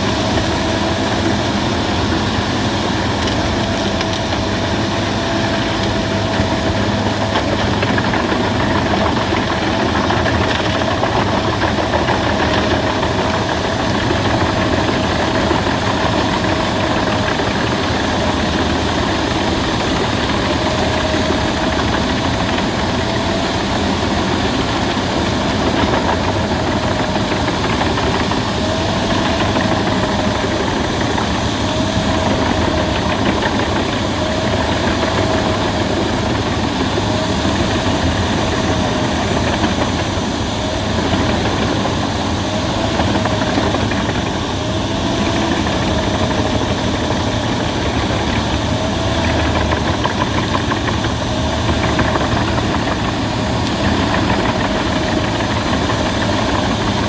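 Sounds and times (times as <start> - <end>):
wood chipper running: 0.0 - 57.0.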